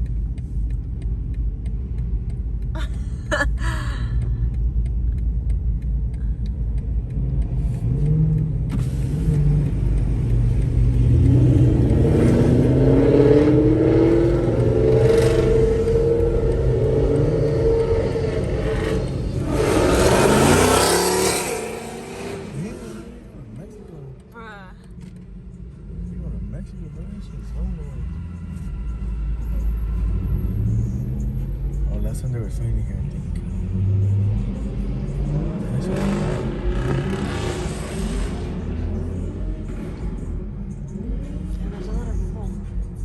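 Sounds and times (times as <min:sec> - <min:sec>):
car engine accelerating: 0:00.0 - 0:43.0
road noise: 0:00.0 - 0:43.0.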